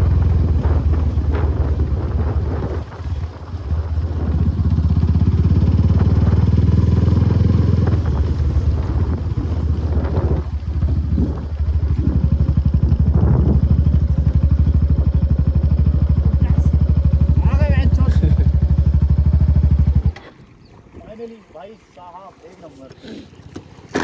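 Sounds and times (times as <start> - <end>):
single-cylinder engine running: 0.0 - 20.3.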